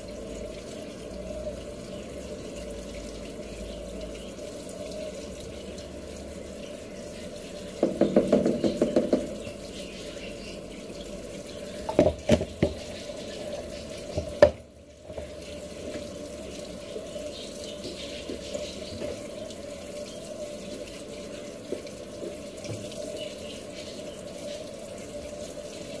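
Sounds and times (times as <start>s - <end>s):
water splashing into washing machine: 0.0s - 26.0s.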